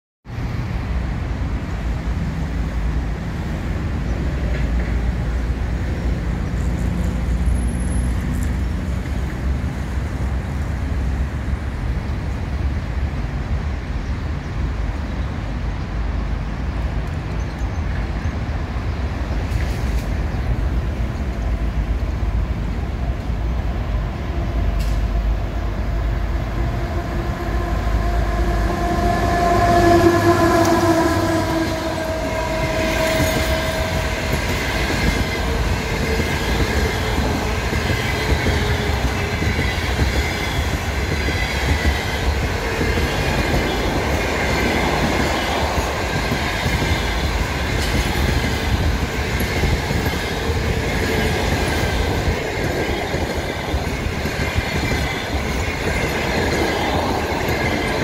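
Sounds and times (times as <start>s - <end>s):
approaching train rumble: 0.2s - 58.0s.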